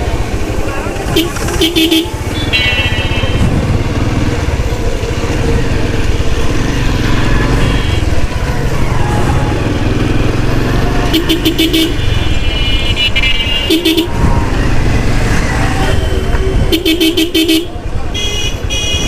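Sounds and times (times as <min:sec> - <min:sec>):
motorcycle engine and road rumble: 0:00.0 - 0:19.0.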